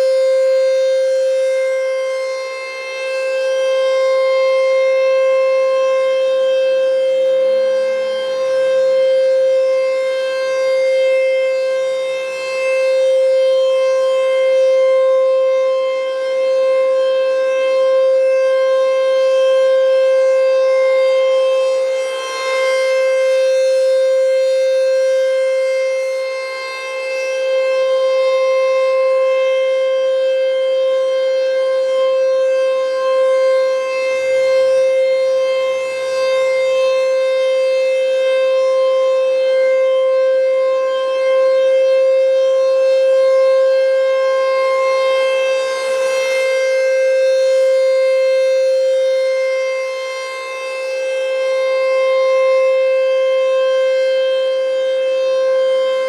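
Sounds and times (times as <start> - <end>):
rotating mechanical siren: 0.0 - 56.0.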